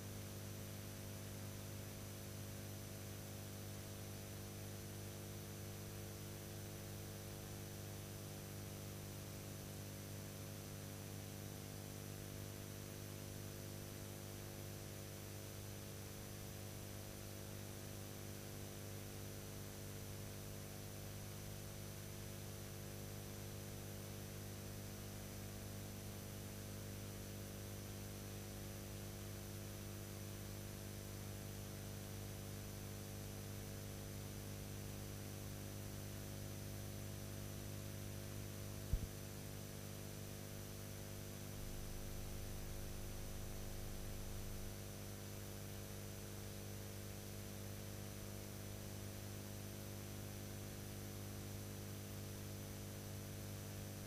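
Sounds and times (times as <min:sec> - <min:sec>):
electrical mains hum with hiss: 0:00.0 - 0:54.0.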